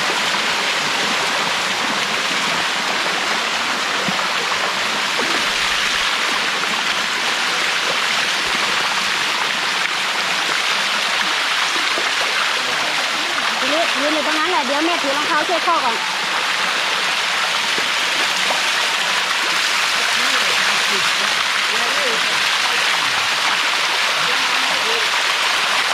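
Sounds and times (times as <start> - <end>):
waterfall water rushing: 0.0 - 25.9.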